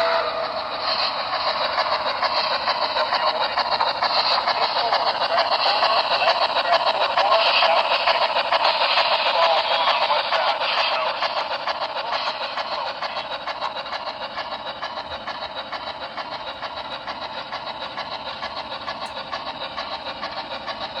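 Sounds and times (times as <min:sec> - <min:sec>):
model locomotive steam chuffs: 0:00.0 - 0:21.0.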